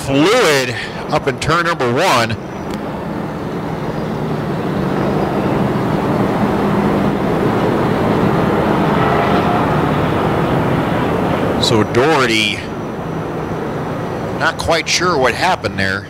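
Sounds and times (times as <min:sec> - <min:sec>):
truck engines running: 0:00.0 - 0:16.0.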